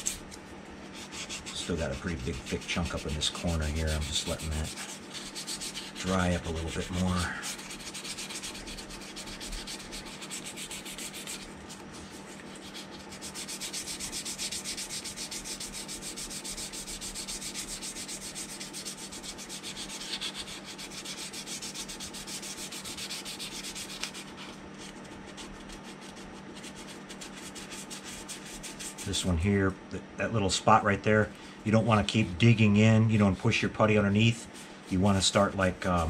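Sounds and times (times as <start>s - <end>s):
sandpaper scratching on plastic: 0.0s - 29.3s.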